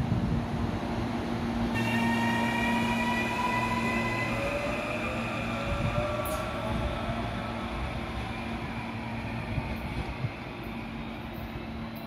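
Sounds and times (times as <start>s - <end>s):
train traction motors whining: 1.1s - 12.0s.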